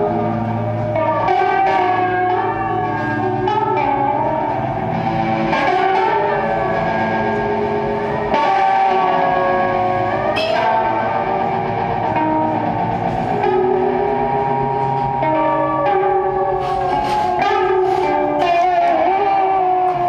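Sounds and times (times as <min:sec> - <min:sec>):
guitar drone with sliding notes: 0:00.0 - 0:20.0.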